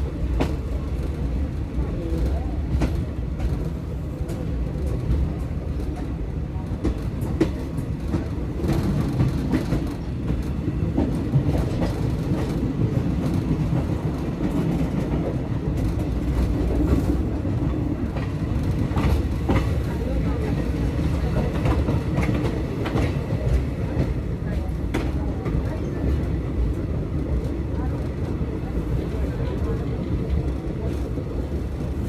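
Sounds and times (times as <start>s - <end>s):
train carriage rumble: 0.0s - 32.0s.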